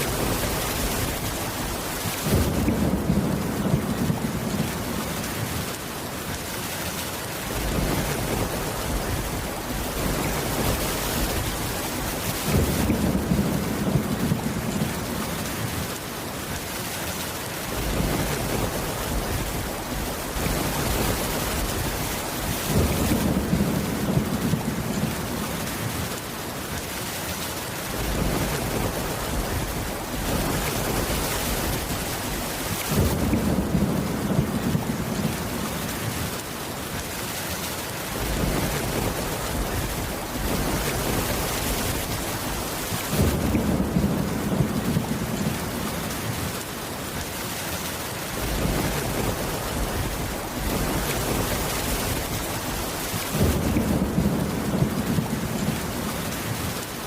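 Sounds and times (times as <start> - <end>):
thunder rumbling: 0.0 - 5.8, 7.4 - 16.0, 17.7 - 26.2, 27.9 - 36.5, 38.1 - 46.8, 48.3 - 57.0
rain on wooden roof: 0.0 - 57.0.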